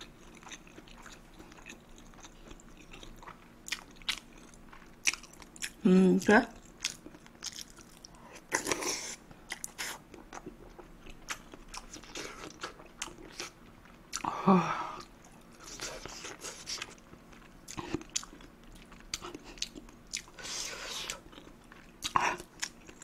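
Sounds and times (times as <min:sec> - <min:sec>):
close chewing with mouth clicks: 0:00.0 - 0:14.3, 0:15.0 - 0:23.0.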